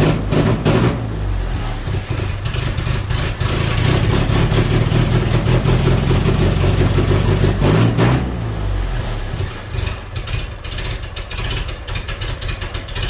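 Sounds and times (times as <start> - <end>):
engine running at fast idle: 0.0 - 13.0.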